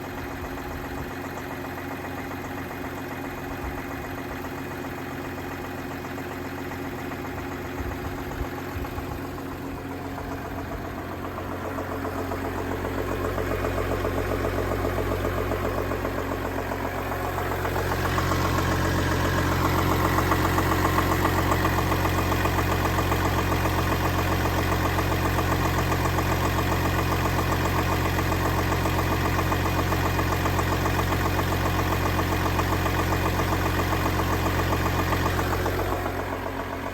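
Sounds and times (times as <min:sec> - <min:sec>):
car engine idling: 0:00.0 - 0:36.9
engine knock: 0:00.0 - 0:36.9.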